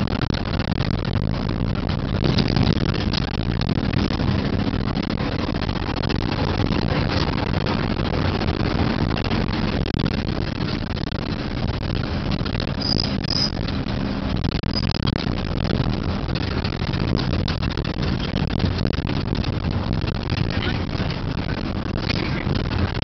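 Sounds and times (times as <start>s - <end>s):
road and tyre noise: 0.0s - 23.0s
car engine hum: 1.2s - 23.0s.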